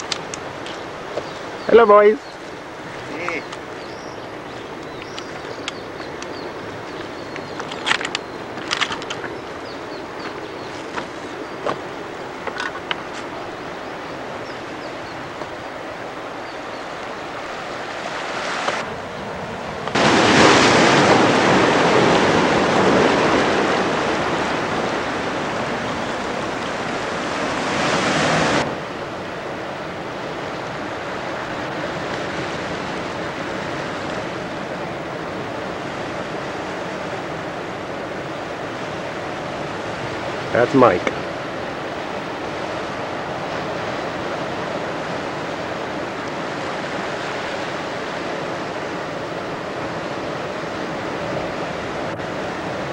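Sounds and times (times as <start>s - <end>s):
ocean surf breaking: 0.0s - 52.9s
wind on microphone: 0.0s - 52.9s.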